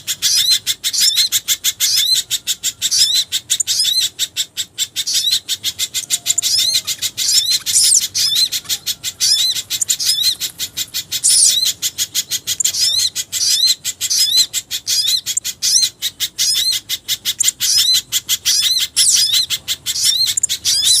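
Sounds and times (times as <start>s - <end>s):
fast high bird chirps: 0.1s - 21.0s.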